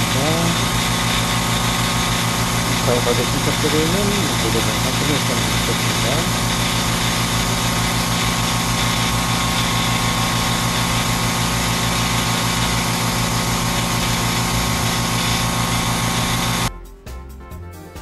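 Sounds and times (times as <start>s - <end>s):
fogger motor and fan humming: 0.0s - 16.7s.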